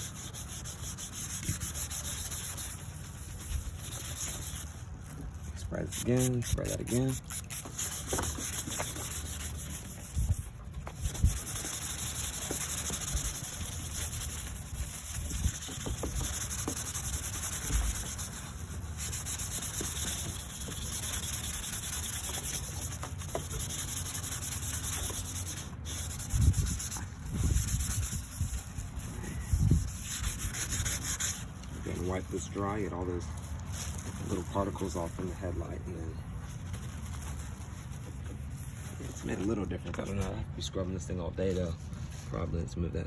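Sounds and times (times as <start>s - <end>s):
sandpaper rubbing plastic: 0.0s - 42.5s.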